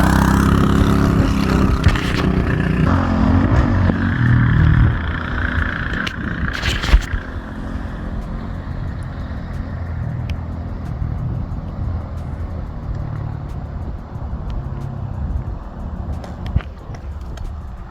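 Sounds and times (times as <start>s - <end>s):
minibike engine running: 0.0s - 17.9s.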